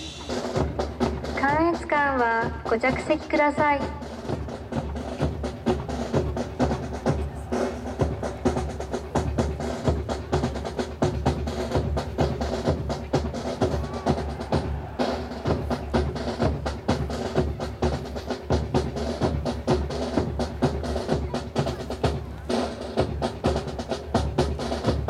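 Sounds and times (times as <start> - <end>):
snare drum strokes and rolls: 0.0 - 25.0.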